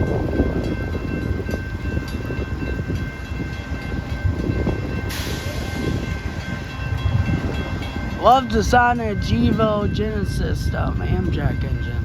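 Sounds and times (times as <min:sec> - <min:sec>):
diesel locomotive rumbling and whining: 0:00.0 - 0:12.0.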